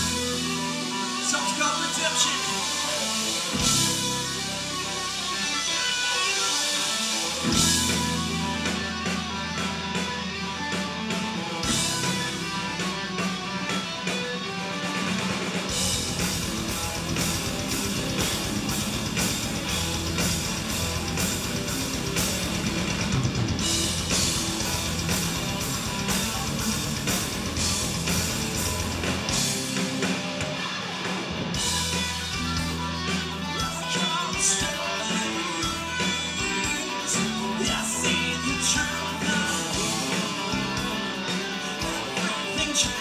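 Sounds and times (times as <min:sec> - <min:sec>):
bass guitar: 0:00.0 - 0:43.0
drum kit: 0:00.0 - 0:43.0
electric guitars: 0:00.0 - 0:43.0.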